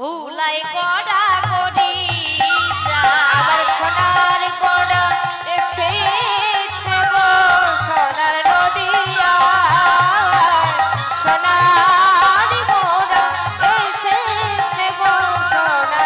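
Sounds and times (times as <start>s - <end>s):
ornamented vocal melody: 1.6s - 16.0s
hand cymbals rattling: 2.2s - 16.0s.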